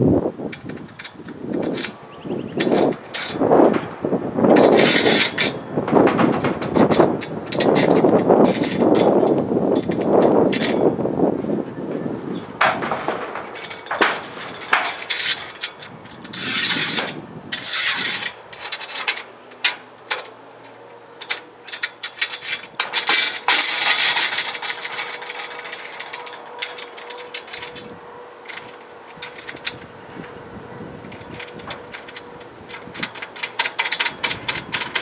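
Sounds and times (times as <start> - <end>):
metal scraping: 0.4 - 35.0
tools clicking and knocking on metal: 0.5 - 10.9, 12.6 - 30.4, 31.0 - 35.0.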